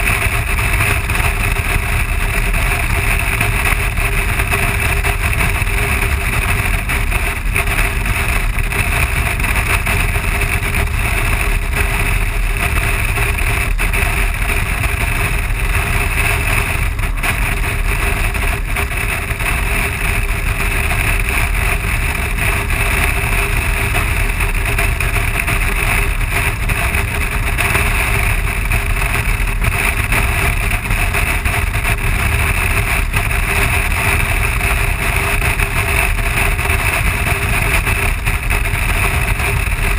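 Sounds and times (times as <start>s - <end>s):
motorcycle engine droning: 0.0s - 39.9s
wind rush on microphone: 0.0s - 39.9s.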